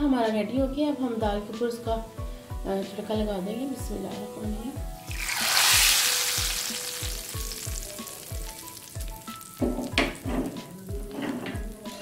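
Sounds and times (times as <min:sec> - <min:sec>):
background music with steady beat: 0:00.0 - 0:12.0
hot oil sizzling: 0:01.3 - 0:12.0.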